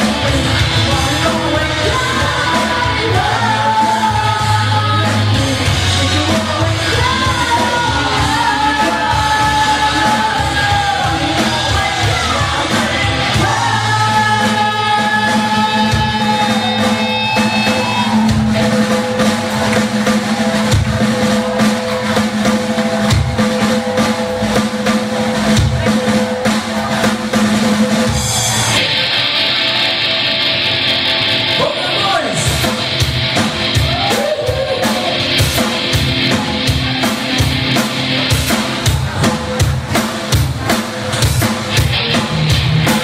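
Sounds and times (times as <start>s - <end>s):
rock band playing: 0.0s - 43.0s.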